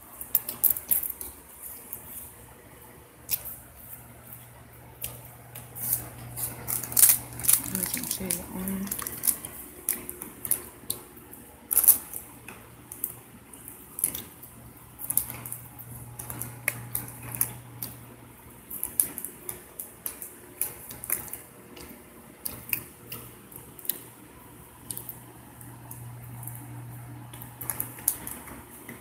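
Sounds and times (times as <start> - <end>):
steady low hum: 1.4 - 19.0, 22.4 - 28.5
chewing crisp fried food: 3.2 - 28.6.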